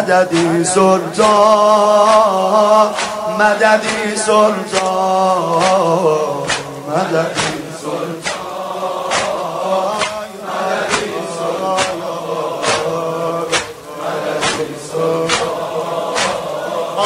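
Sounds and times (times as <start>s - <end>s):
men chanting in chorus: 0.0s - 17.0s
sharp steady beat: 0.3s - 17.0s.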